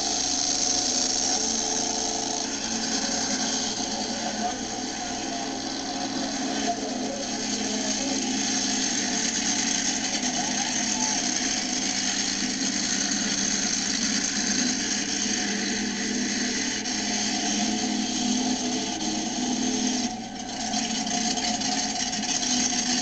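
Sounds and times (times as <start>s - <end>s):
monster truck engine at high revs: 0.0s - 23.0s.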